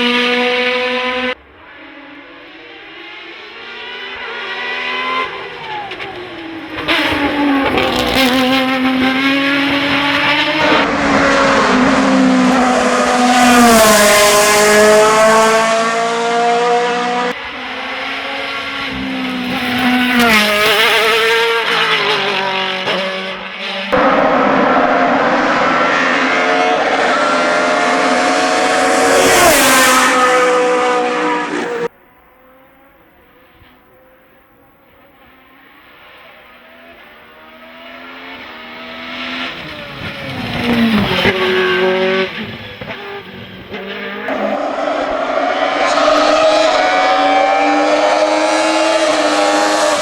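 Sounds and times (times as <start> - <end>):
race car engines at full throttle: 0.0 - 50.0.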